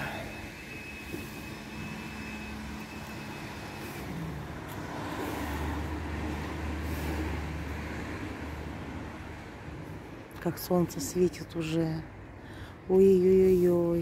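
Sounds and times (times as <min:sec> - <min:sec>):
road noise: 0:00.0 - 0:14.0
vehicle engine rumbling: 0:00.0 - 0:14.0.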